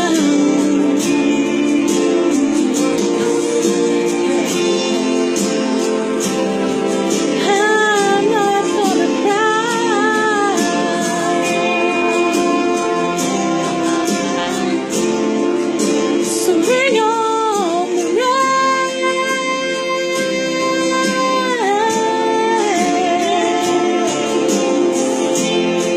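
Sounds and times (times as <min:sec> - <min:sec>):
woman singing country ballad: 0:00.0 - 0:15.1, 0:16.1 - 0:25.9
instrumental backing: 0:00.0 - 0:25.9.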